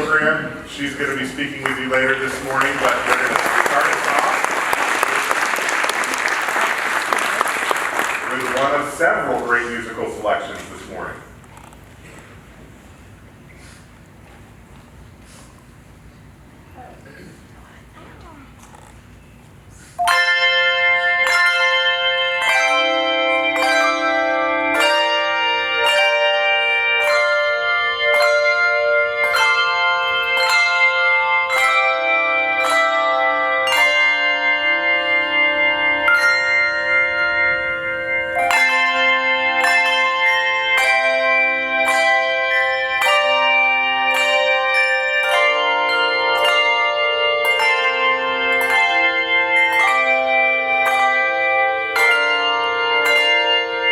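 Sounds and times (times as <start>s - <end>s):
handbell choir playing: 0.0s - 10.6s, 20.0s - 53.9s.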